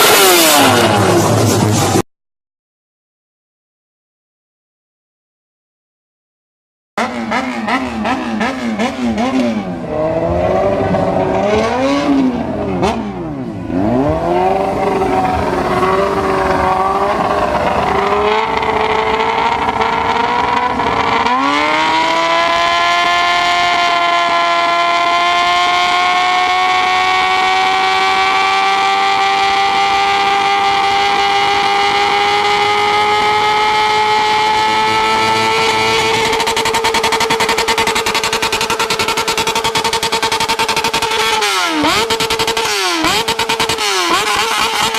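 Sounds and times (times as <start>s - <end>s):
motorcycle engine revving: 0.0s - 2.0s, 7.0s - 44.9s.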